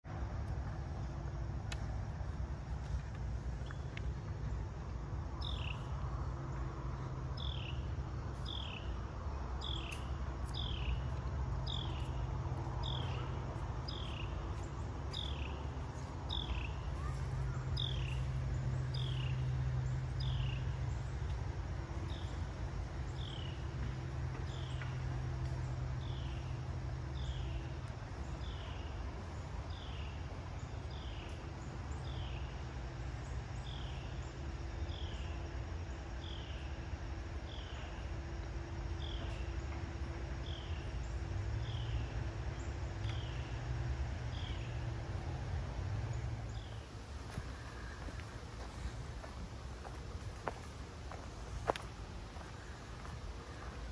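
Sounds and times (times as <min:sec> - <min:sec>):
steady low rumble: 0:00.1 - 0:53.9.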